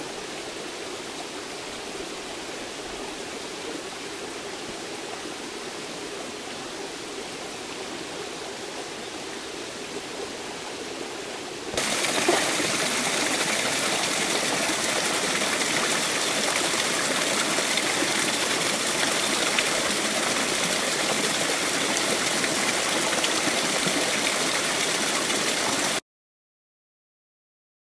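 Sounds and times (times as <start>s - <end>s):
stream and waterfall rushing: 0.0s - 26.0s.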